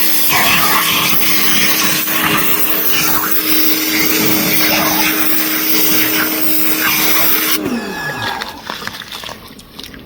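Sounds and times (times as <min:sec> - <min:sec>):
power tool motor winding down: 0:00.0 - 0:08.6.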